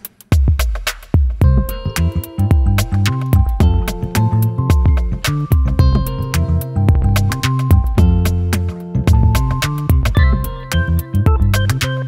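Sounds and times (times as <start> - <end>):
steady percussive beat: 0.0 - 12.0
plucked instrumental music: 1.4 - 12.0.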